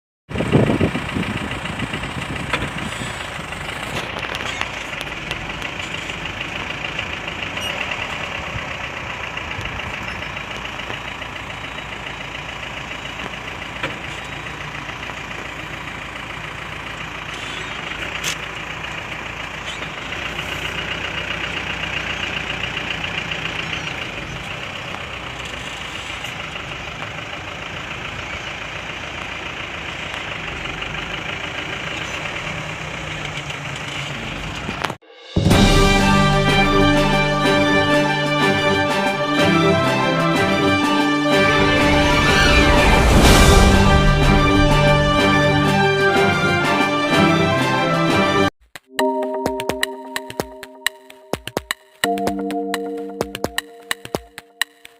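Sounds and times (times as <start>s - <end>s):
truck engine idling: 0.3s - 34.8s, 35.7s - 48.2s.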